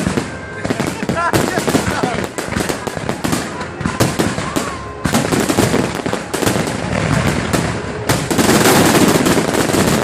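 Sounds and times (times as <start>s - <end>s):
fireworks banging and crackling: 0.0s - 10.0s.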